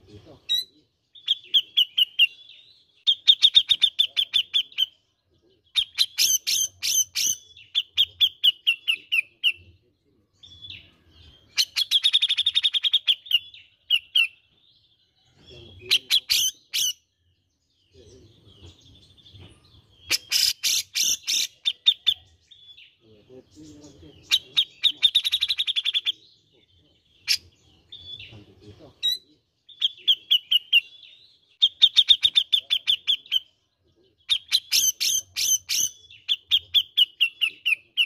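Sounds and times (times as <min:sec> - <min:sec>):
bird chattering trills: 0:00.0 - 0:09.8, 0:10.5 - 0:14.4, 0:15.4 - 0:17.1, 0:20.0 - 0:26.4, 0:27.1 - 0:38.0.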